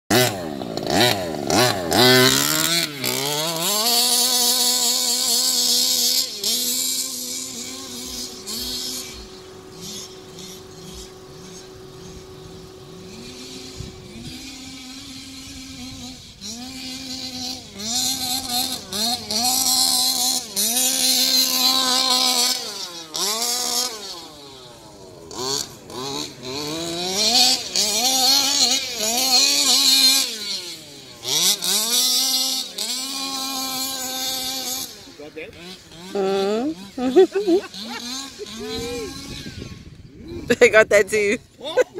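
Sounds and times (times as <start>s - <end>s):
two-stroke engine revving: 0.1s - 41.9s.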